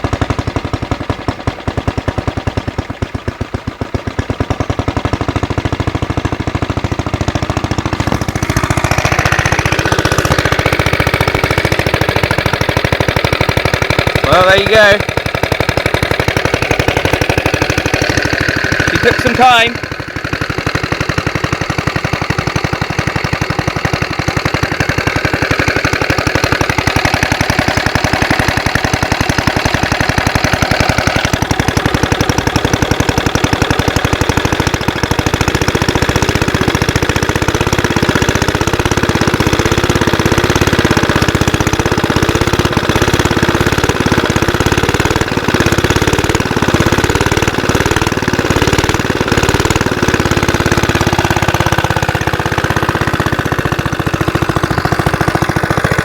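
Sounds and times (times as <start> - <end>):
single-cylinder engine running: 0.0 - 56.0.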